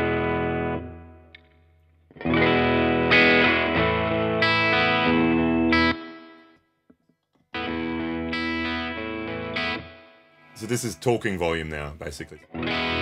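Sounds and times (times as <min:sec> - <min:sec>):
electric guitar chords: 0:00.0 - 0:06.7, 0:07.5 - 0:11.6, 0:12.4 - 0:13.0.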